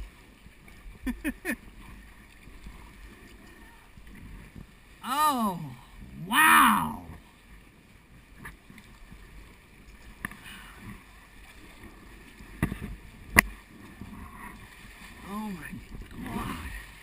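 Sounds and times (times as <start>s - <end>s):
paddle in water: 0.0s - 17.0s
water lapping: 0.0s - 17.0s.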